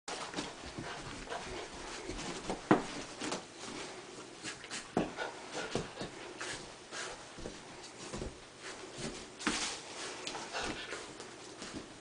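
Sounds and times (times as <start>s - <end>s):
puppy scuffling on carpet: 0.1s - 12.0s.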